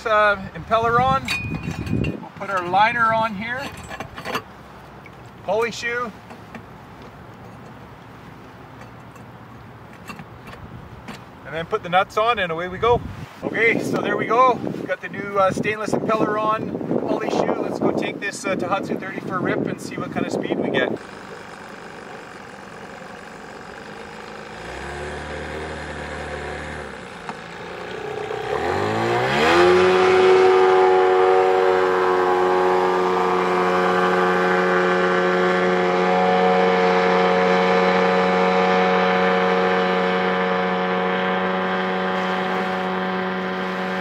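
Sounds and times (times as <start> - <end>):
outboard motor running: 0.0 - 11.6, 18.6 - 44.0.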